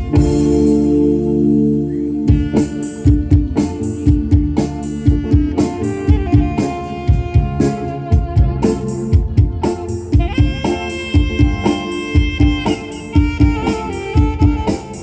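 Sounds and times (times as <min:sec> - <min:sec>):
steady drum beat: 0:00.0 - 0:01.1, 0:02.3 - 0:15.0
instrumental melody: 0:00.0 - 0:15.0.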